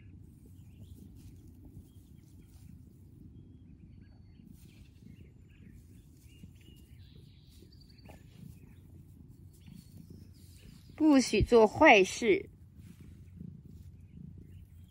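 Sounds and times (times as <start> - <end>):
faint bird chirps: 0.0 - 14.9
steady low rumble: 0.0 - 14.9.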